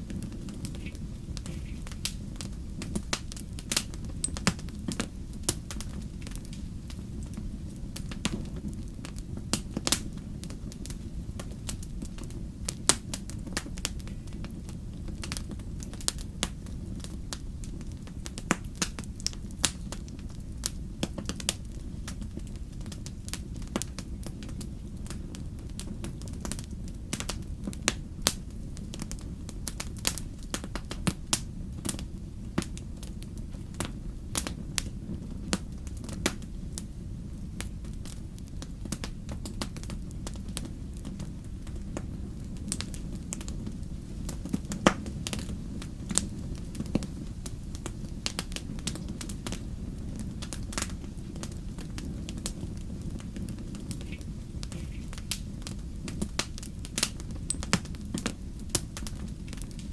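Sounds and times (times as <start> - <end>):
low rumble of flames: 0.0 - 59.9
sharp pops of fire: 0.0 - 59.9
wood fire crackling: 0.0 - 59.9.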